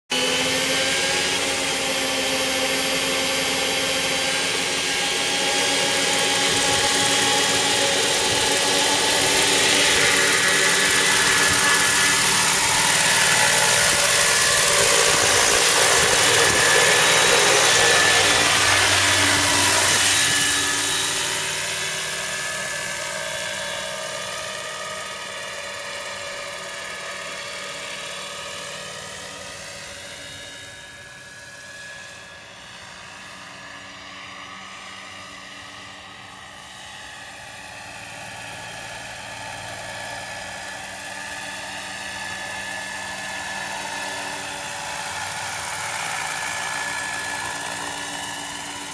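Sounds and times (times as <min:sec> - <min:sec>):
helicopter rotor noise: 0:00.1 - 0:48.9
model helicopter engine whine: 0:00.1 - 0:48.9.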